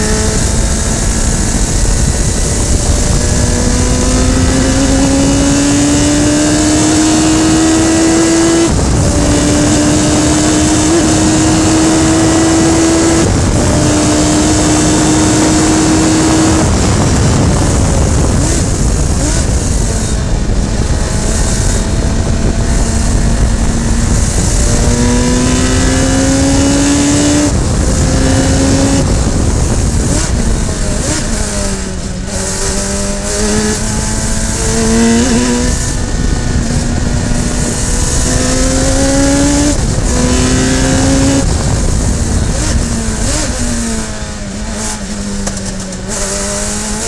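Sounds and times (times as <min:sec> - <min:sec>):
race car engine accelerating: 0:00.0 - 0:47.0
wind and road rush: 0:00.0 - 0:47.0.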